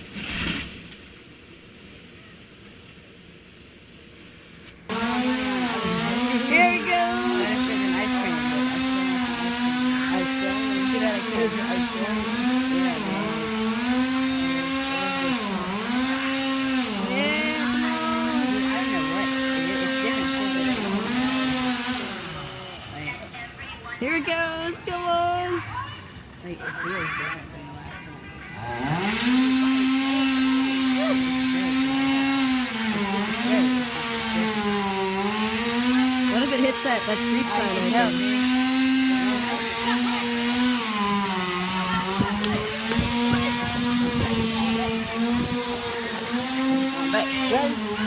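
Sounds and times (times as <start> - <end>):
chainsaw running at high revs: 4.9 - 23.8, 28.5 - 48.0.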